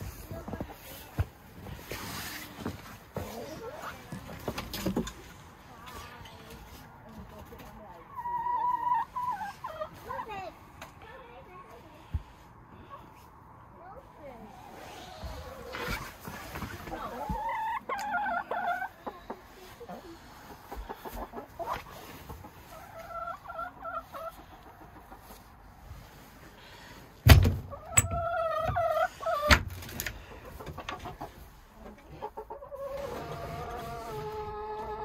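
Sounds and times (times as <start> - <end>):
chickens clucking: 2.7 - 11.8, 14.2 - 26.1, 27.6 - 35.0.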